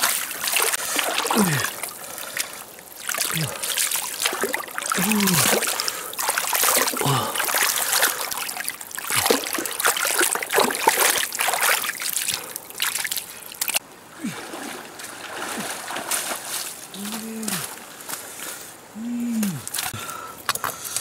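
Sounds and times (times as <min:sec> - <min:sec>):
water splashing in shallow water: 0:00.0 - 0:21.0.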